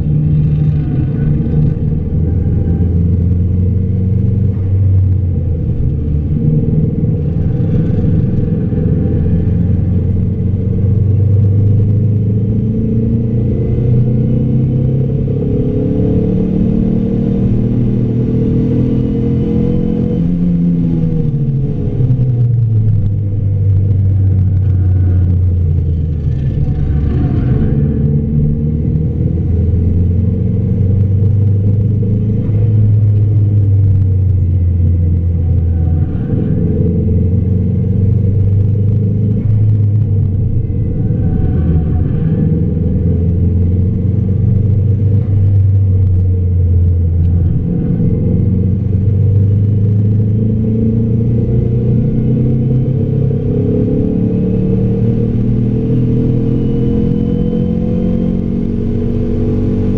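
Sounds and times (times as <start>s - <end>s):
car engine drone in cabin: 0.0s - 59.9s
road noise: 0.0s - 59.9s.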